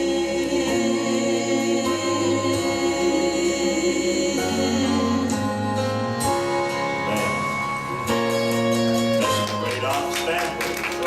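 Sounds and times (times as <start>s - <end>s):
gospel singing over chords: 0.0s - 9.1s.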